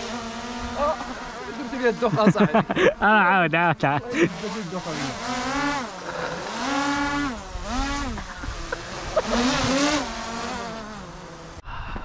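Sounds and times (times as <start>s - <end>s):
drone propellers whining: 0.0s - 11.6s.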